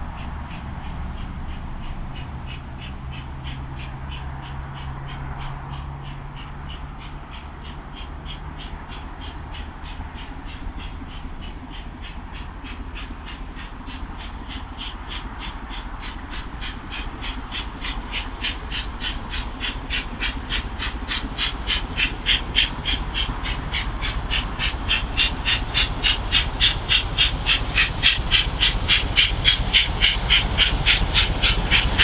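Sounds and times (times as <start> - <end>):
steady low rumble: 0.0 - 32.0
steam locomotive chuffing: 0.0 - 32.0.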